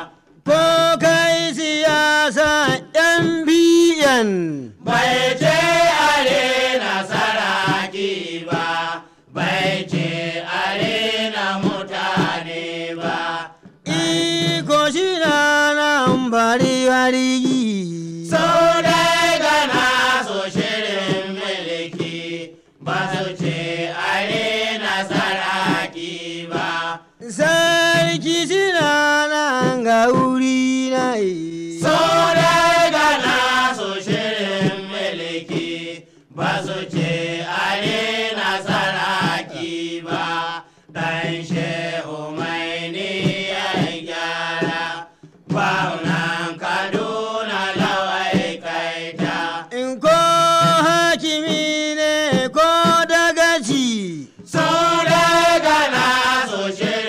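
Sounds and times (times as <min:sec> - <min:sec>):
chanted singing: 0:00.0 - 0:57.0.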